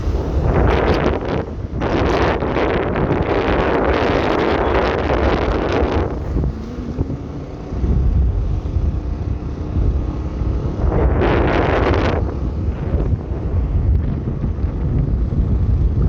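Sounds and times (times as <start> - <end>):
motorbike rumble: 0.0 - 16.0
wind buffeting microphone: 0.0 - 16.0.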